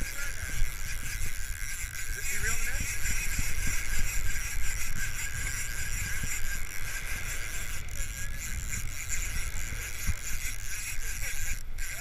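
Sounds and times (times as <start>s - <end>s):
fishing reel whirring: 0.0s - 12.0s
wind rumble on microphone: 0.0s - 12.0s.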